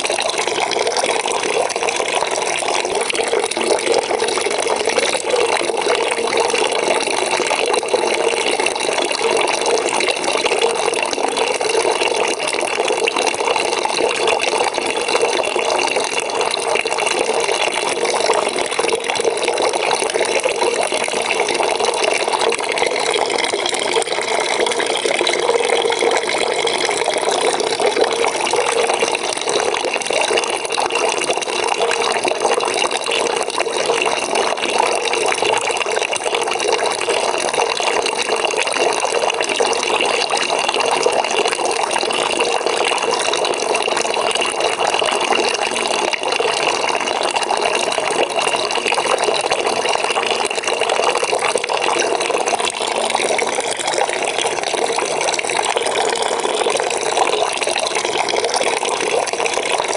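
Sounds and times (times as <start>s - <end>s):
water running into bucket: 0.0s - 59.9s.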